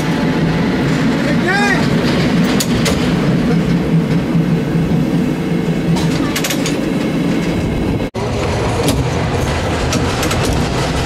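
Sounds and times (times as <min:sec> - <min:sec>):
wheels rumbling on rails: 0:00.0 - 0:11.0.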